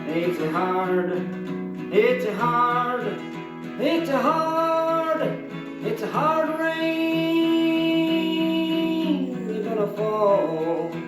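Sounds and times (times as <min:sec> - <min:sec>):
acoustic guitar: 0:00.0 - 0:11.0
person singing: 0:00.0 - 0:11.0.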